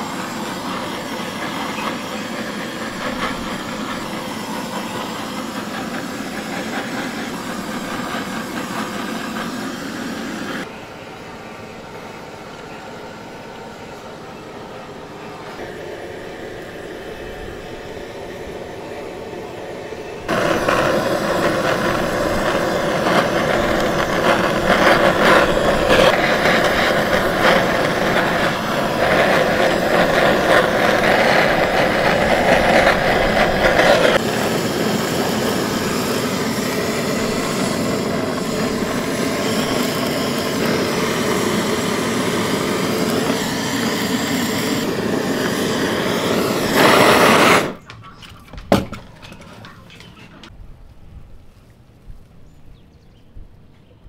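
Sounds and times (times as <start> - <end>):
blowtorch hissing: 0.0 - 10.7, 11.8 - 47.9.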